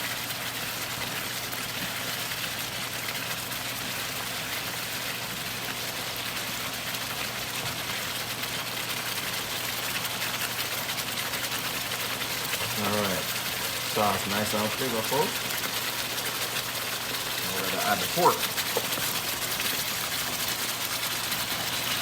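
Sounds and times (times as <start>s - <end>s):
sauce sizzling in a pan: 0.0s - 22.0s.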